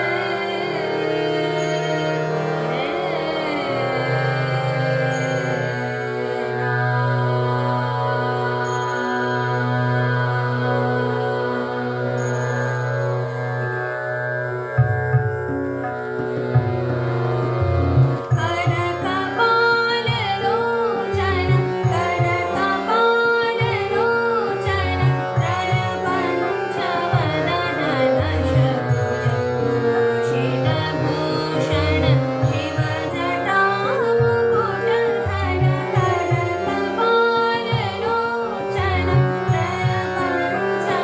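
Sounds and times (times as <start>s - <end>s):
woman singing slow melody: 0.0s - 12.6s, 18.3s - 29.4s, 30.2s - 41.0s.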